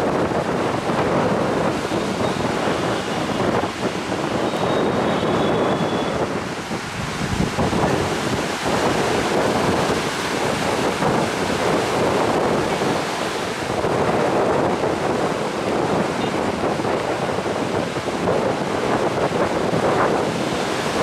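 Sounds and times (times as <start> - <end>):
sea surf rushing: 0.0 - 21.0
wind buffeting microphone: 0.0 - 21.0.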